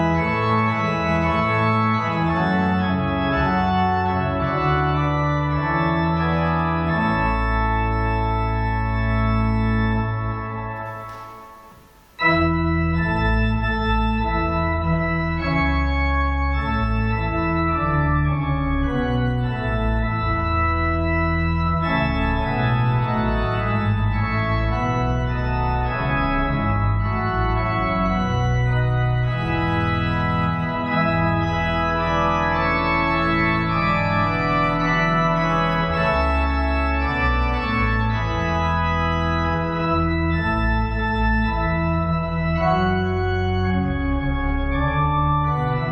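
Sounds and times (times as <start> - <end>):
organ playing chords: 0.0 - 45.9.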